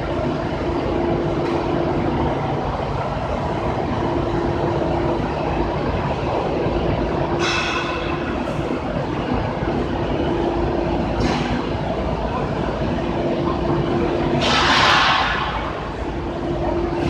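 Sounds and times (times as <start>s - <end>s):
machine droning: 0.0s - 17.0s.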